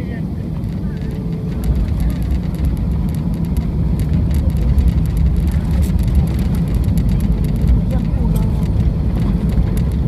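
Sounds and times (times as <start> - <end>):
airliner engines and wheels rumbling: 0.0 - 10.0
light rattling ticks: 0.5 - 10.0.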